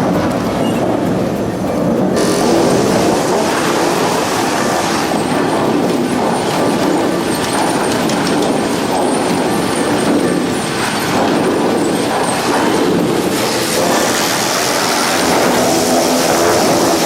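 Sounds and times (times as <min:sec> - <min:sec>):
wood chipper grinding wood: 0:00.0 - 0:17.0.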